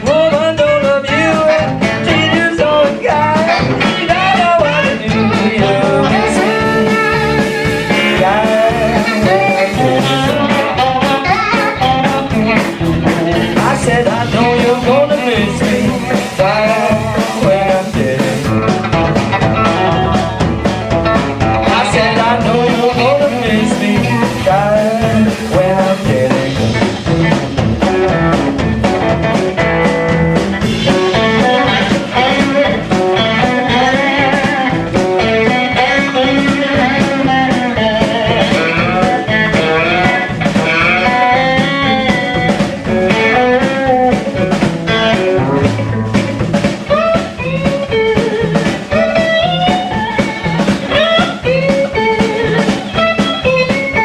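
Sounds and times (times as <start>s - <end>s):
electric guitar lead with bent notes: 0.0s - 54.0s
steady drum beat: 0.0s - 54.0s.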